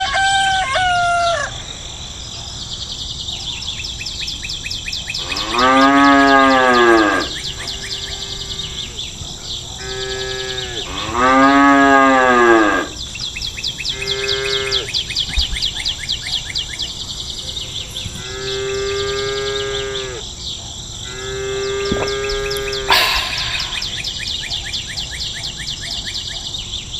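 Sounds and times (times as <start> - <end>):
insects chirring: 0.4 - 26.9.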